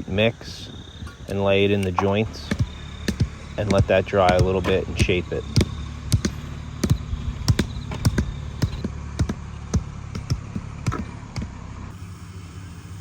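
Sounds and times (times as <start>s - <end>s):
low engine hum: 0.0s - 13.0s
hammer tapping stone blocks: 1.0s - 11.5s.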